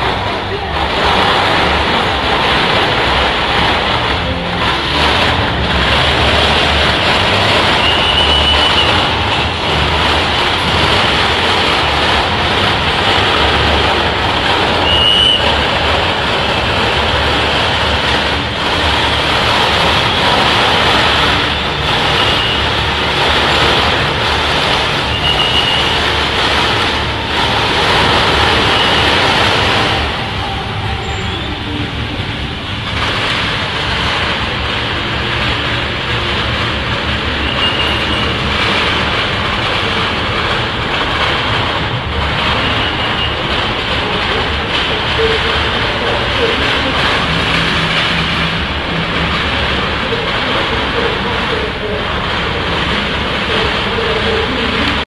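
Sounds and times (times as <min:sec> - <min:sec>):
heavy rain: 0:00.0 - 0:55.0
street traffic: 0:00.0 - 0:55.0.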